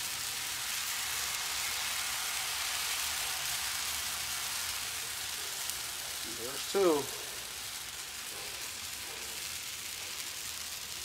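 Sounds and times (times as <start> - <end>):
batter sizzling on a griddle: 0.0 - 11.0.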